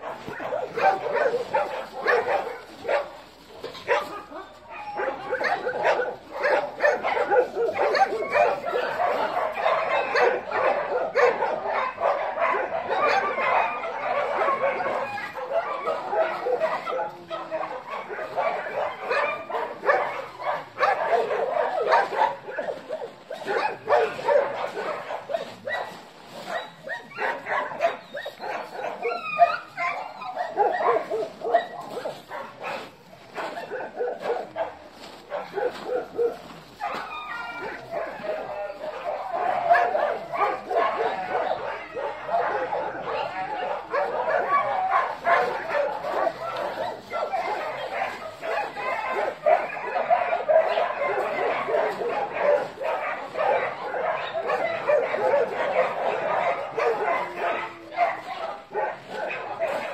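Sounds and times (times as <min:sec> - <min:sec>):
dogs barking and yipping: 0:00.0 - 0:59.9.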